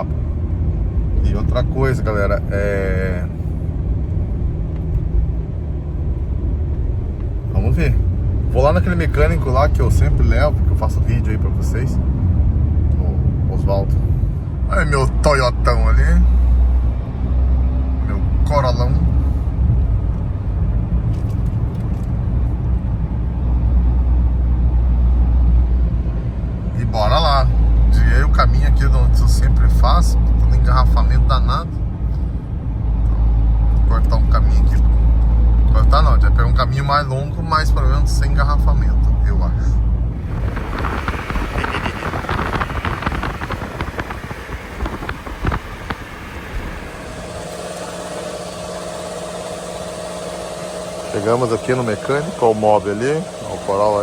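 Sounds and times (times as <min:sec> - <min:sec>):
car engine and tyre rumble: 0:00.0 - 0:54.0
road noise: 0:00.0 - 0:54.0.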